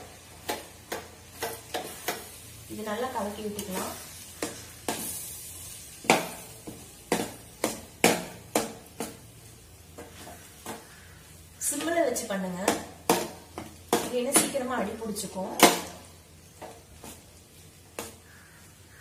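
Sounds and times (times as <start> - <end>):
light sizzle: 0.0 - 19.0.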